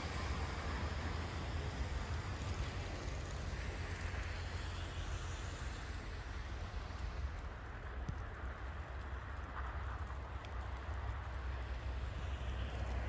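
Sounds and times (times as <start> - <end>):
tram rolling along track: 0.0 - 8.5, 9.2 - 13.0.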